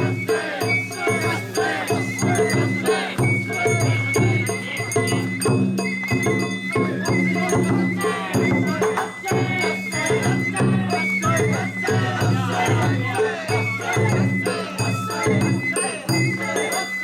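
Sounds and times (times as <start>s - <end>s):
high bamboo flute: 0.0s - 17.0s
rattling percussion: 0.0s - 17.0s
steady drumming: 0.0s - 17.0s.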